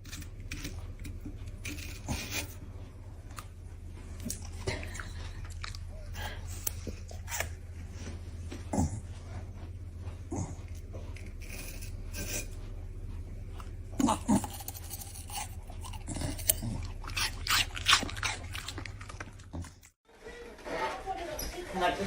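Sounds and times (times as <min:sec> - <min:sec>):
dog chewing and crunching: 0:00.0 - 0:20.0
low hum: 0:00.0 - 0:20.0.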